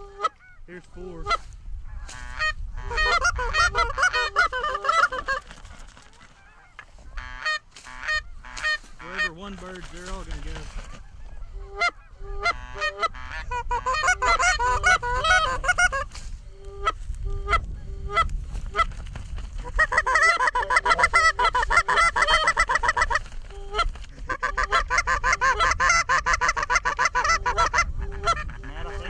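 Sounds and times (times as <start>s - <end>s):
goose honks and clucks: 0.0s - 18.9s, 19.6s - 29.0s.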